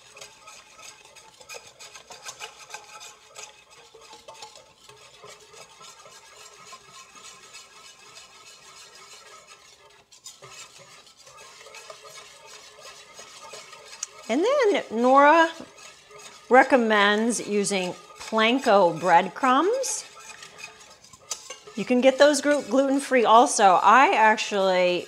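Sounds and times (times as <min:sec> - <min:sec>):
whisk scraping metal bowl: 0:00.0 - 0:25.0.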